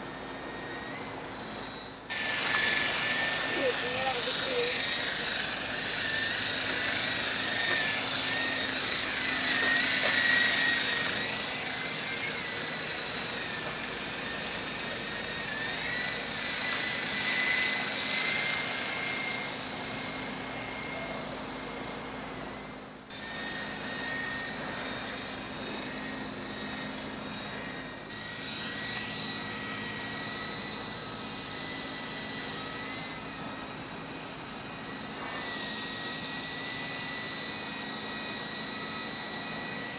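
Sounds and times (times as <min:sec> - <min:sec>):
toy helicopter motor whine: 0:00.0 - 0:39.9.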